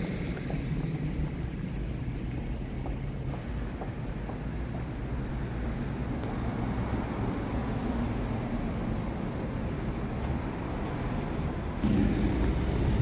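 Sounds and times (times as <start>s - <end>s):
passing cars rumble and hiss: 0.0s - 13.0s.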